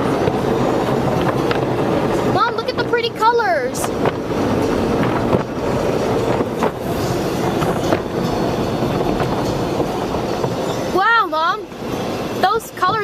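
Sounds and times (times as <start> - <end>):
car wash water spray: 0.0 - 13.0.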